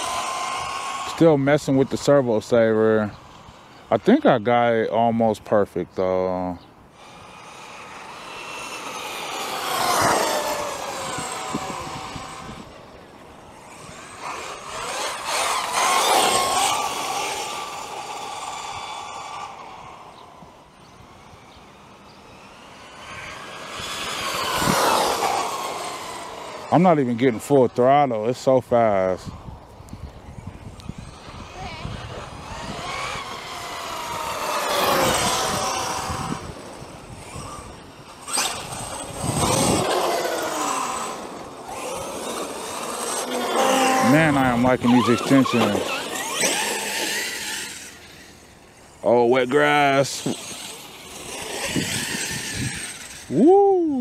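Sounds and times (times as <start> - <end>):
rc truck electric motor whining: 0.0 - 5.4, 6.0 - 54.0.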